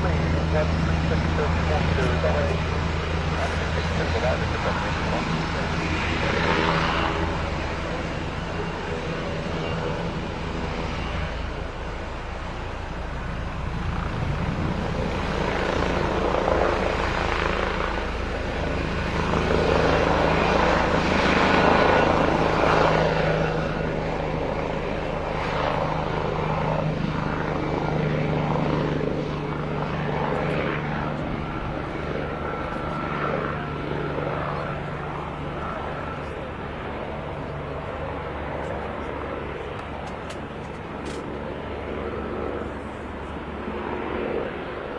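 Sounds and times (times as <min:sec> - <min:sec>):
helicopter turbine and rotor: 0:00.0 - 0:44.9.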